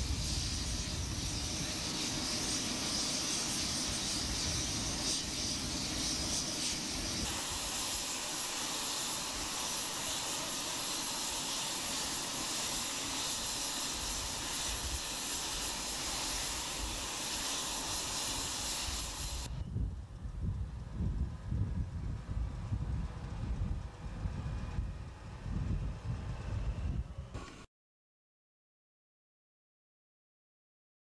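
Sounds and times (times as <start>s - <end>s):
aircraft engine hiss and whine: 0.0s - 27.7s.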